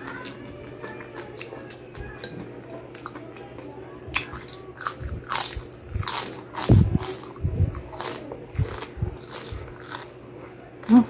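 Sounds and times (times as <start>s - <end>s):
crispy pork skin crunching: 0.0s - 10.2s.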